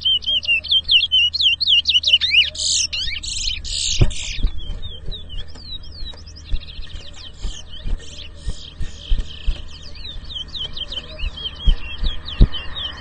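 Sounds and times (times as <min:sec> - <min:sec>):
bird singing whistled trills: 0:00.0 - 0:13.0.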